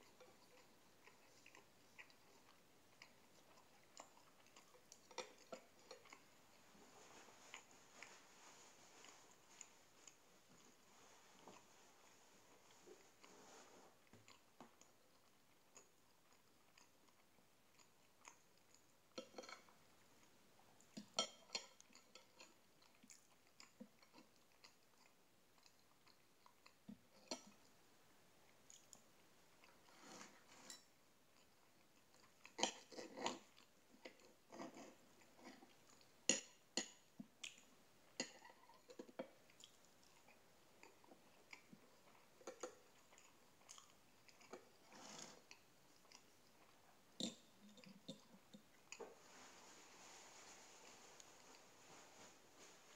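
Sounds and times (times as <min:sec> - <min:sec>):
faint chewing: 0:00.0 - 0:52.9.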